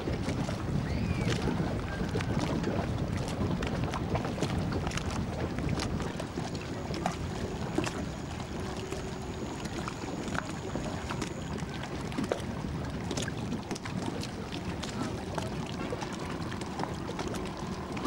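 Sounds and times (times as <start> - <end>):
boat rumbling on water: 0.0 - 18.0
wind on microphone: 0.0 - 18.0.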